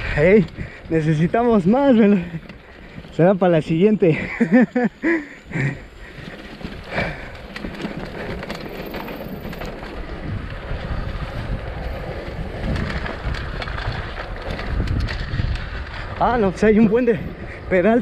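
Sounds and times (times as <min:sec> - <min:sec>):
bike rattles and knocks: 0:00.0 - 0:18.0
bike tyres rolling on dirt: 0:00.0 - 0:18.0
wind buffeting microphone: 0:00.0 - 0:18.0.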